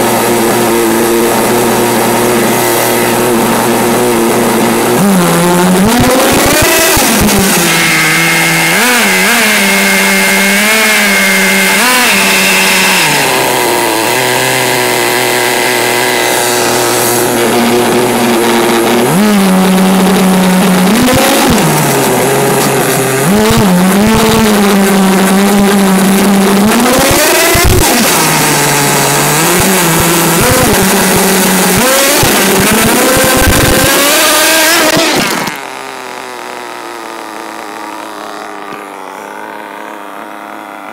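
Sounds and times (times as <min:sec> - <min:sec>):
small nitro engine revving: 0:00.0 - 0:40.9.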